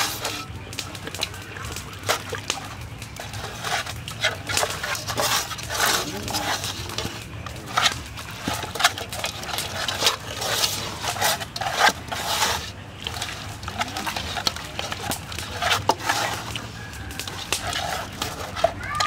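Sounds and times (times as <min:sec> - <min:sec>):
wet squelching of meat: 0:00.0 - 0:19.0.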